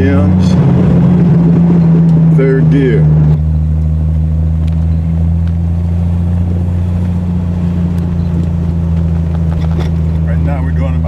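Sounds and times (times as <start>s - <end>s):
car engine cruising drone: 0.0s - 11.0s.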